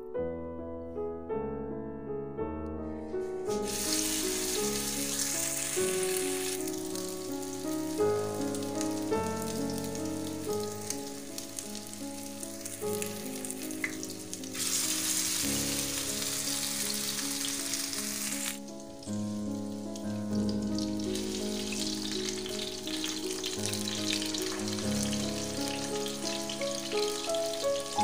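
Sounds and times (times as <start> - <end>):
background piano music: 0.0 - 28.0
patties sizzling in hot oil: 3.4 - 28.0.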